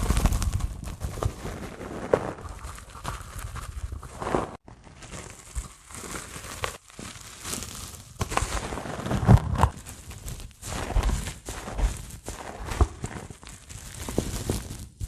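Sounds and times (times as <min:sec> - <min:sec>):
dry sponge rustling: 0:00.0 - 0:15.0
sponge crunching: 0:00.0 - 0:15.0.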